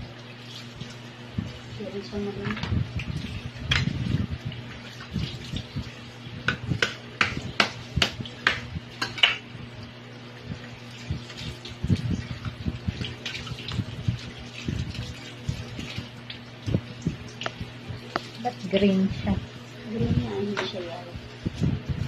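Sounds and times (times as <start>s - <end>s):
water in sink: 0.0s - 22.0s.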